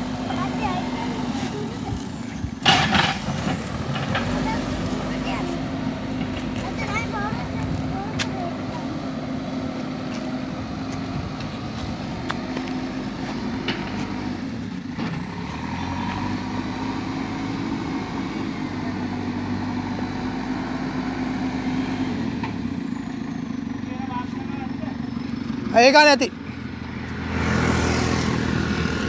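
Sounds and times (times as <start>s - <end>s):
diesel engine running under load: 0.0s - 29.0s.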